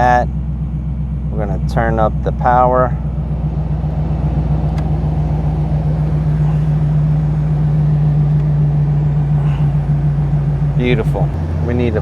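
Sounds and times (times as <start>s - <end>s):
car blower fan humming: 0.0s - 12.0s.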